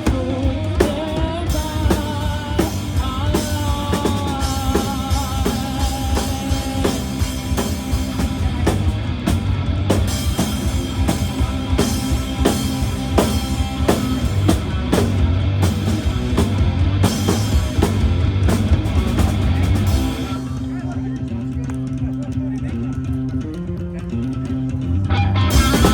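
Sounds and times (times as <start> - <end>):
drum kit beat: 0.0 - 21.6, 25.4 - 25.9
live rock band playing: 0.0 - 22.3, 23.0 - 25.9.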